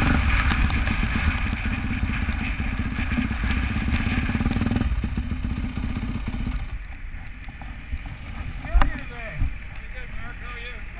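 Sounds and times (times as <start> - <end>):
dirt bike engine running at low revs: 0.0 - 10.9.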